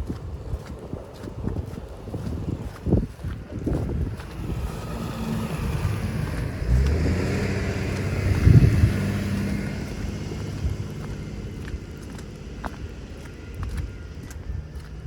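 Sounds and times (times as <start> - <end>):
motor vehicle passing: 0.3 - 15.0.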